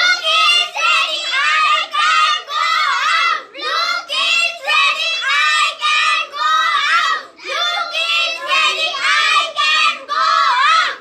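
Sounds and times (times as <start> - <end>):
children chanting in unison: 0.0 - 11.0.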